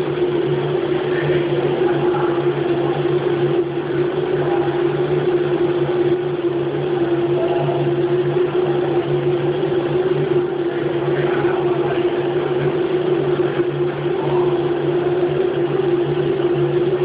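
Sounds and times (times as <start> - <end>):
continuous rushing noise: 0.0 - 17.0
milling machine humming and whining: 0.0 - 17.0.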